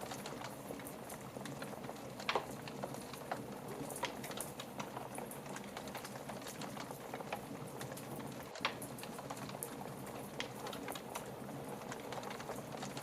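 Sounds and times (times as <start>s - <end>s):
wood fire crackling in fireplace: 0.0s - 13.0s.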